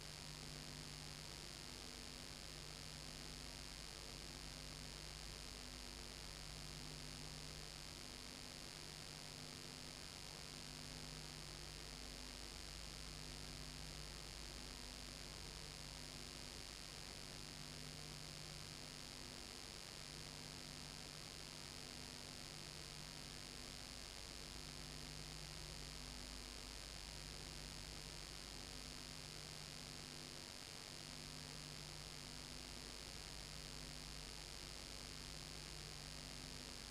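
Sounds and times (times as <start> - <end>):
electrical mains hum with hiss: 0.0 - 36.9.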